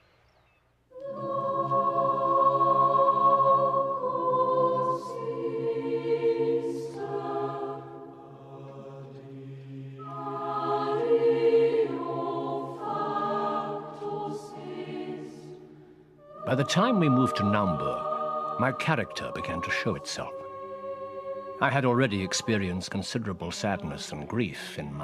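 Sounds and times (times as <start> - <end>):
mixed choir singing chords: 0.9 - 25.0.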